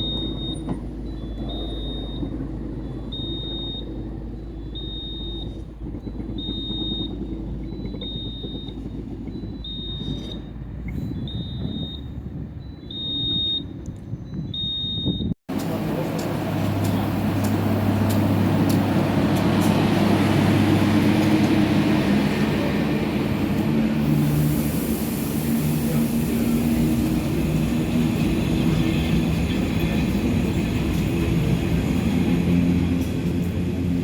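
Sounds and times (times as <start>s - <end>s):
train rumbling past: 0.0s - 11.4s, 15.5s - 34.0s.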